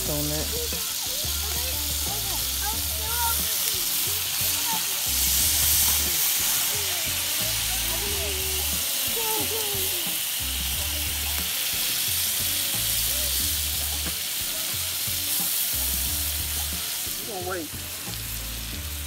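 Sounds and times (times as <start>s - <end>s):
fish sizzling in a skillet: 0.0s - 19.0s.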